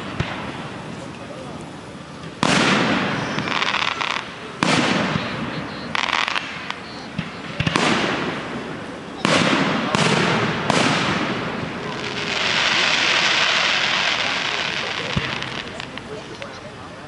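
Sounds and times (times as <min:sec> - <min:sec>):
fireworks booming: 0:00.0 - 0:16.4
fireworks crackling: 0:00.0 - 0:17.0.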